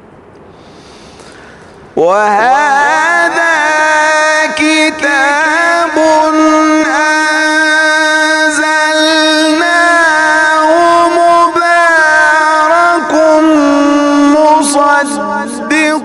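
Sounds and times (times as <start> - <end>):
man chanting melodically: 2.0 - 16.0.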